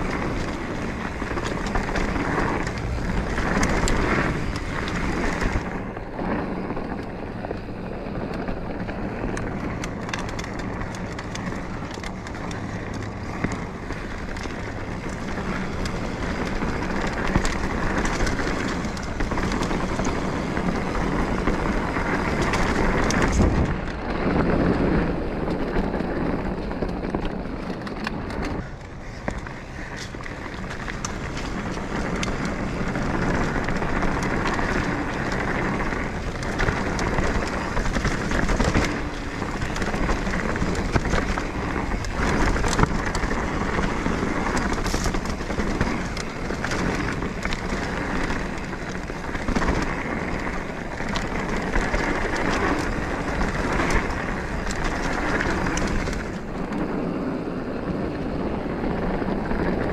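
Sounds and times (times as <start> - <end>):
bike clicks and rattles: 0.0 - 59.9
bike tyres rolling over dirt: 0.0 - 59.9
wind on microphone: 0.0 - 59.9.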